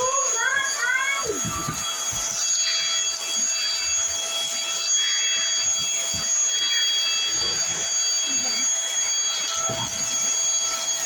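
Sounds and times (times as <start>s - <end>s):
vacuum cleaner whining: 0.0s - 11.0s.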